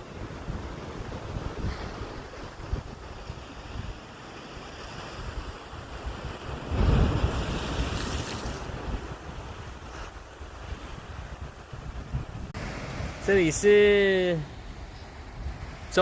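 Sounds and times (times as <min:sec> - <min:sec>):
wind buffeting microphone: 0:00.1 - 0:13.2.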